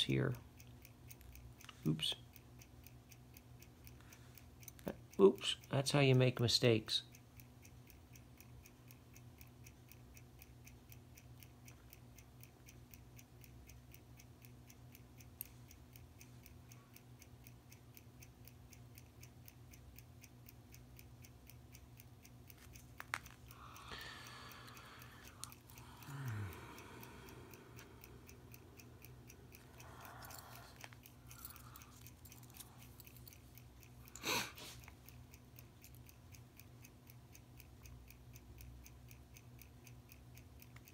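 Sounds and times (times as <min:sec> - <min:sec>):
watch ticking: 0:00.0 - 0:40.9.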